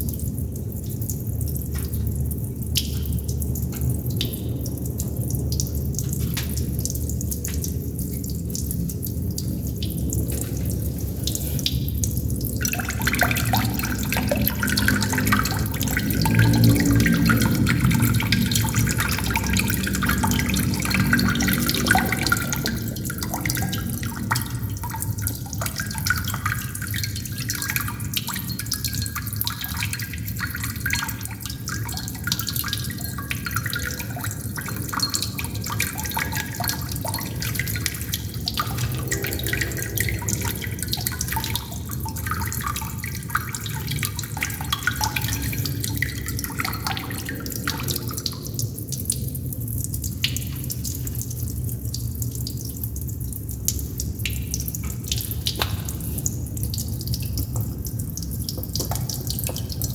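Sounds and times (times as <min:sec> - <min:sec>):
running water: 0:00.0 - 0:59.9
water droplets dripping: 0:00.0 - 0:59.9.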